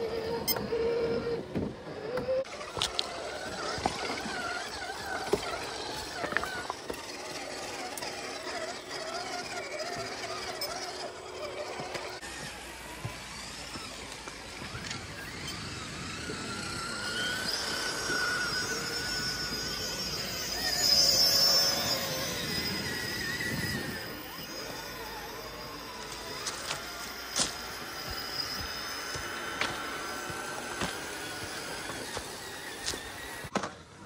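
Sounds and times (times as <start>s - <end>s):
rc truck motors whining: 0.0s - 34.0s.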